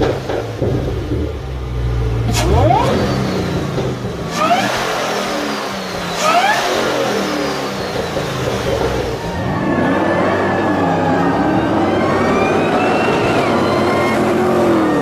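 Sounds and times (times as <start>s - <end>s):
car engine revving: 0.0s - 15.0s
supercharger whine: 0.0s - 15.0s.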